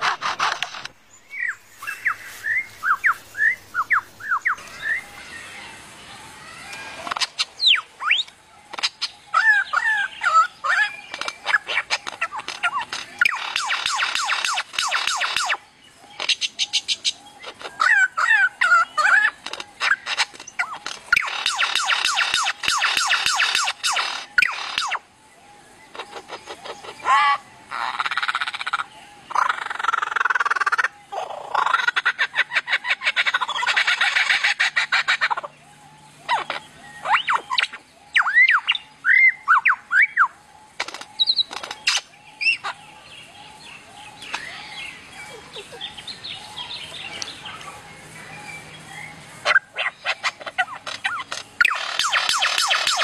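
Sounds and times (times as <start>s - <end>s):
lyrebird singing mimicry: 0.0s - 5.4s, 6.7s - 25.0s, 25.8s - 53.0s.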